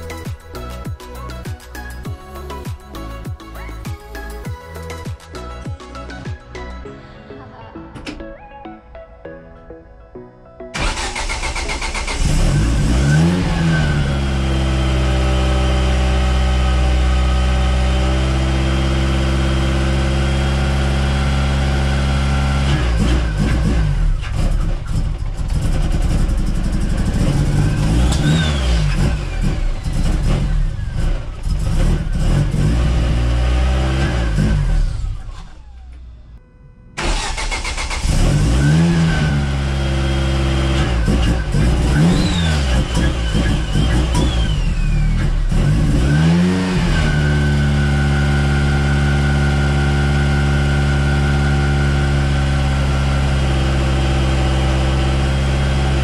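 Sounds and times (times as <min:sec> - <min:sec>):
car engine revving and idling: 0:00.0 - 0:03.2, 0:10.8 - 0:36.4, 0:37.0 - 0:56.0.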